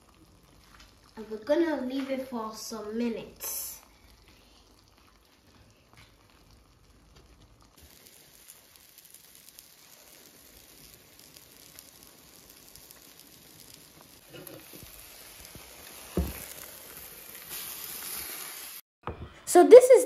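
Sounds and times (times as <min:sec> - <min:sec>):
egg sizzling in a pan: 0:00.0 - 0:18.8.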